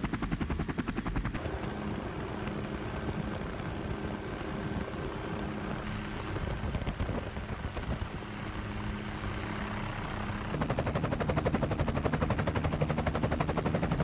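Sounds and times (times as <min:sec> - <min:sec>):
helicopter cabin rushing noise: 0:00.0 - 0:14.0
helicopter rotor chop: 0:00.0 - 0:14.0.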